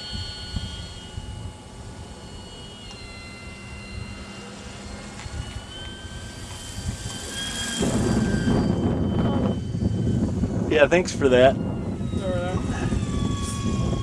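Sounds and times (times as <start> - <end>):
low rumble on microphone: 0.0 - 14.0
model aircraft motor whining: 0.0 - 14.0.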